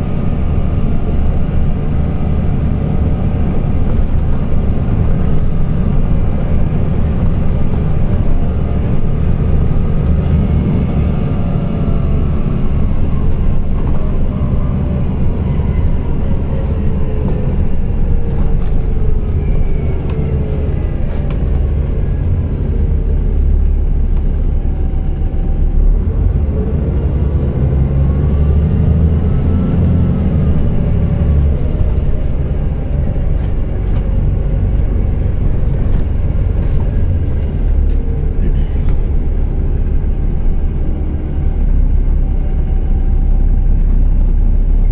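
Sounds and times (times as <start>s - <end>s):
bus diesel engine: 0.0s - 44.9s
road rumble: 0.0s - 44.9s.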